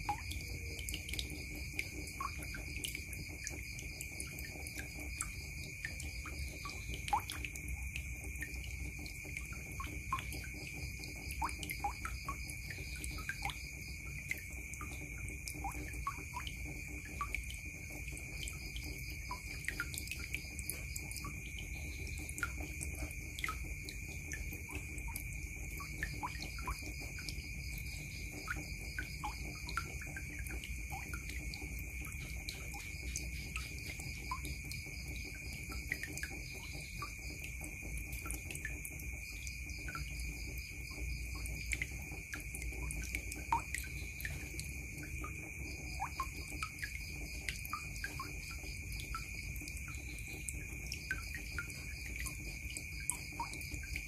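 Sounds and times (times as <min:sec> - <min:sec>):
water dripping into plastic basin: 0:00.0 - 0:54.0.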